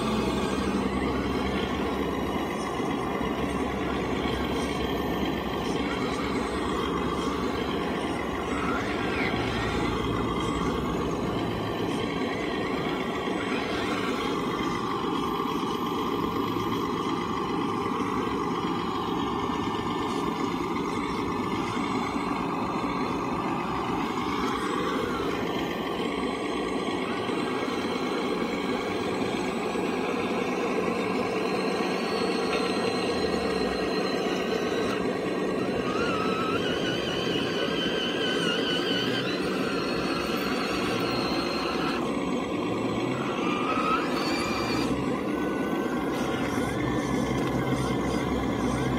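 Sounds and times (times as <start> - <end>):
toy excavator hydraulics running: 0.0 - 48.9.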